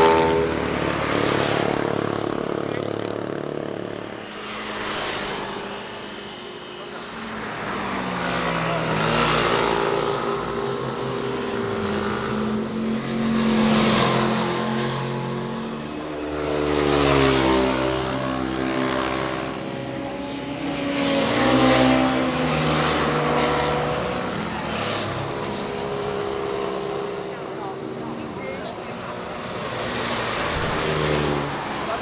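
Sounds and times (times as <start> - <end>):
motorcycles passing: 0.0 - 32.0.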